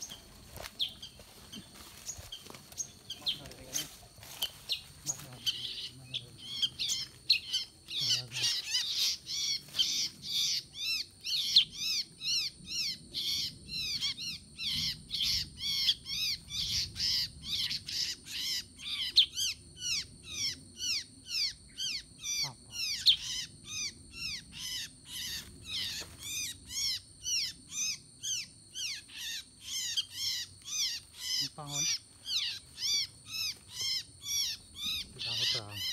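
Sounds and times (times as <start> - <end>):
bulbuls chirping: 0.0 - 35.9.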